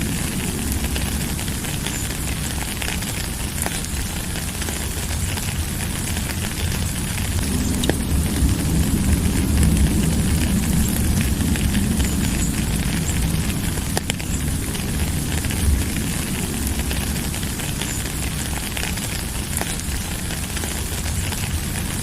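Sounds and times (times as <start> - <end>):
rain drops clicking: 0.0 - 22.0
steady rain hiss: 0.0 - 22.0.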